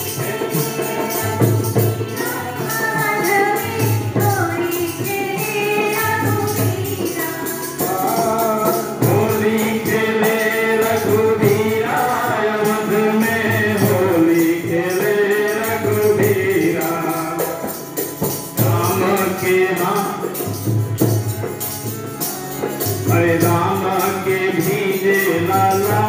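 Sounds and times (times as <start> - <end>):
person singing into a microphone: 0.0 - 20.8, 23.0 - 26.0
hand drum beat: 0.0 - 26.0
harmonium: 0.0 - 26.0.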